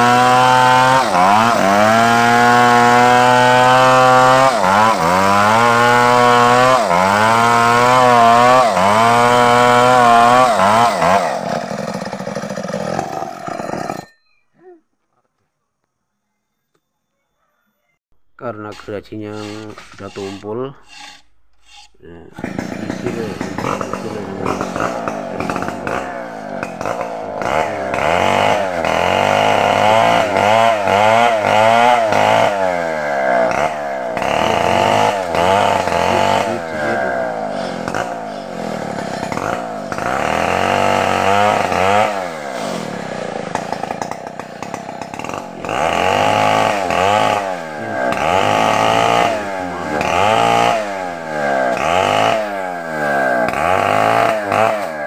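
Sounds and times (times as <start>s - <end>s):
chainsaw revving: 0.0s - 14.1s, 22.3s - 55.0s.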